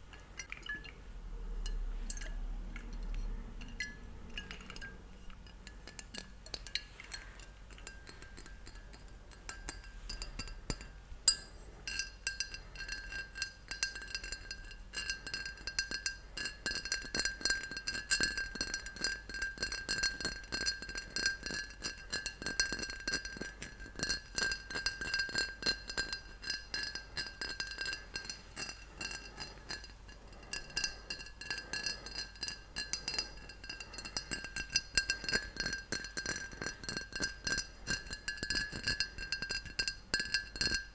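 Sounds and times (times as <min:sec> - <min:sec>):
fingers tapping glass bottle: 0:00.0 - 0:01.0, 0:01.6 - 0:40.9.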